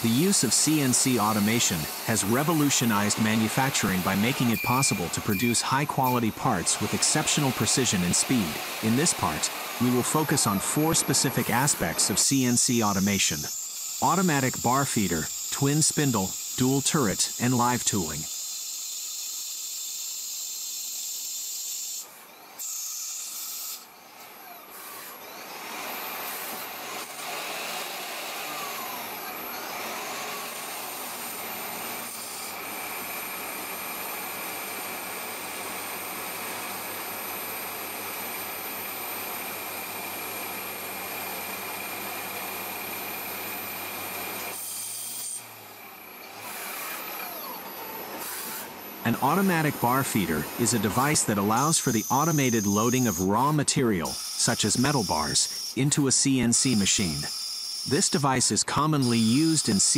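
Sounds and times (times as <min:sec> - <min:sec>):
lathe cutting metal hiss: 0:00.0 - 0:25.2, 0:25.8 - 0:56.0, 0:56.6 - 0:59.9.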